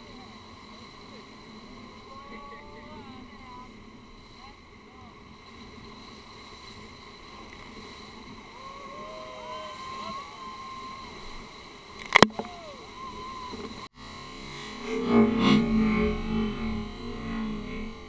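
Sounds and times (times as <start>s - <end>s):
faint wavering tones: 0.0s - 18.0s.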